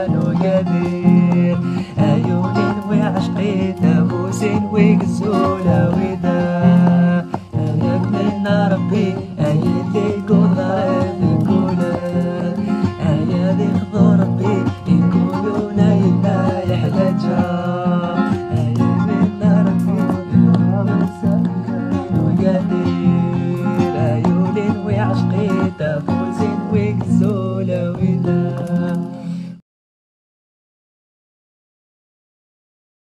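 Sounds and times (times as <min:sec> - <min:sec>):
plucked string instrument: 0:00.0 - 0:29.5.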